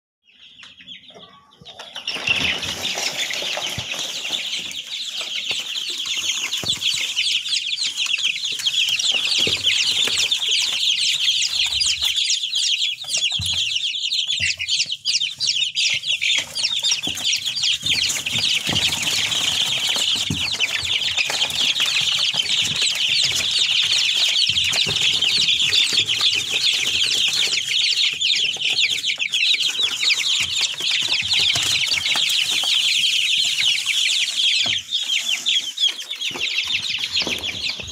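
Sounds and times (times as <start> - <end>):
chicks peeping: 0.2 - 37.9.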